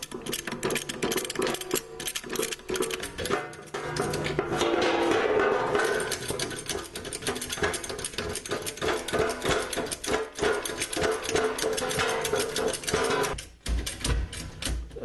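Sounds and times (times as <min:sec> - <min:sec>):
jack clicking and rattling: 0:00.0 - 0:15.0.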